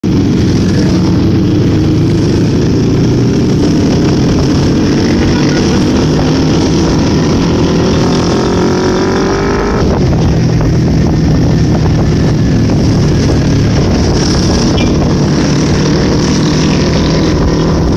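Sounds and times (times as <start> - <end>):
engine running and revving: 0.0 - 17.9.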